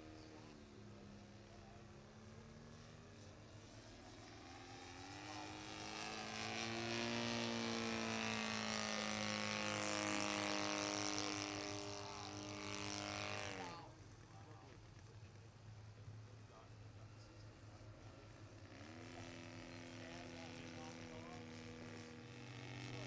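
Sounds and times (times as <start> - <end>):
model airplane engine running: 0.0 - 23.0.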